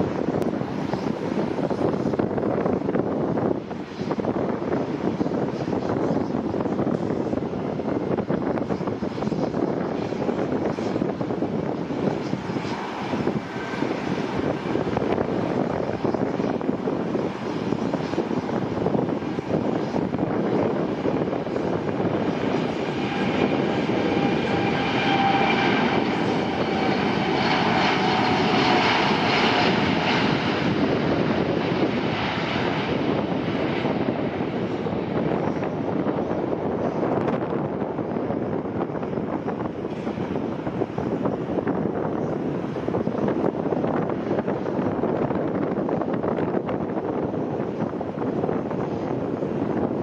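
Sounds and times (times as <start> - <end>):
jet engine roar with whine: 0.0 - 50.0.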